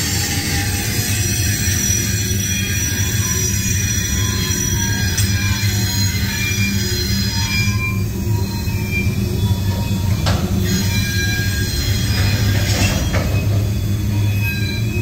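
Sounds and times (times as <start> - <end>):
high-pitched wheel squeal: 0.0 - 15.0
train wheels rumbling on rail: 0.0 - 15.0.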